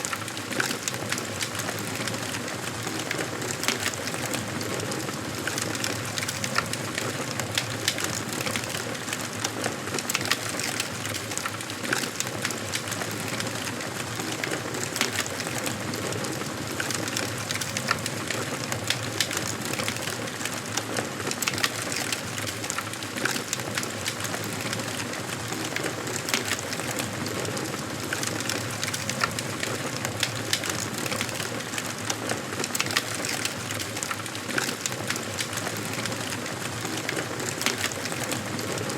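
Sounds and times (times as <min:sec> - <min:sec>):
wood fire crackling and hissing: 0:00.0 - 0:38.9.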